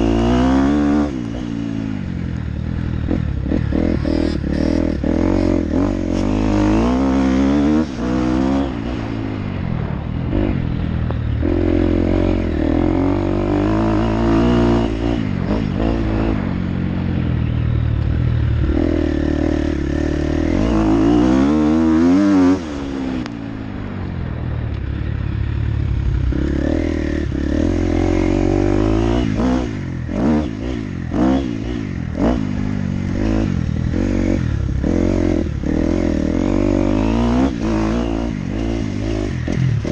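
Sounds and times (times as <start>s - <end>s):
dirt bike engine revving: 0.0s - 24.4s, 25.1s - 39.9s.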